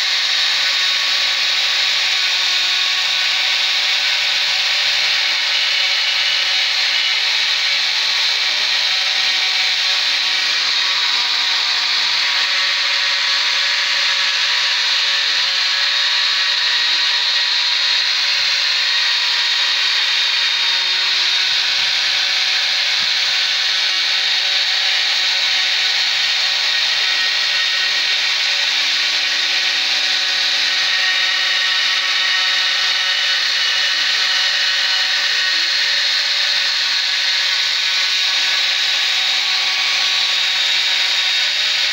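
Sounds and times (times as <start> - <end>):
cutter hissing through wood: 0.0 - 41.9
router spindle high whine: 0.0 - 41.9.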